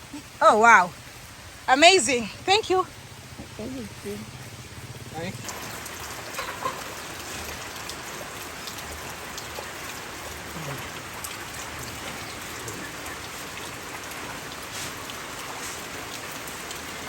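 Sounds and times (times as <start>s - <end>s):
rain falling: 0.0s - 17.0s
water drips: 0.1s - 17.0s.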